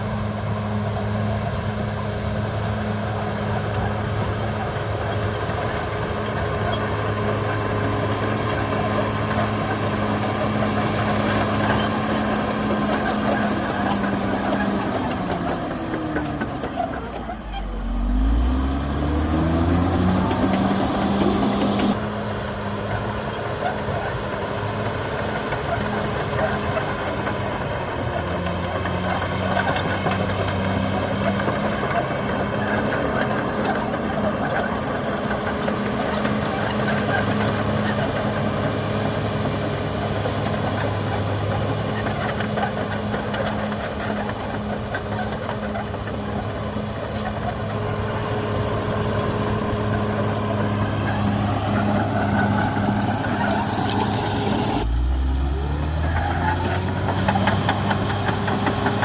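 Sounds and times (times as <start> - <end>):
bulldozer diesel engine running: 0.0 - 59.0
short high squeaks and clicks: 0.2 - 59.0.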